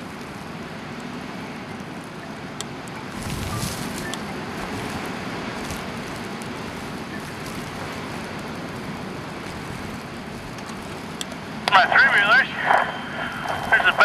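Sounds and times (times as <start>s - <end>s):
blizzard wind on microphone: 0.0s - 14.0s.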